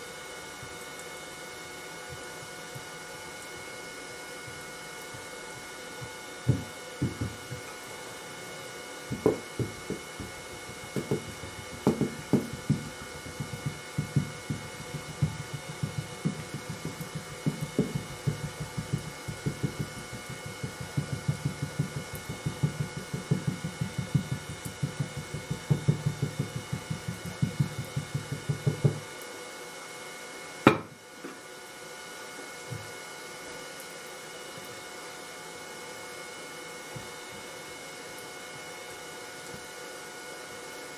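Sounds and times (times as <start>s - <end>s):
steady hum and hiss: 0.0s - 40.9s.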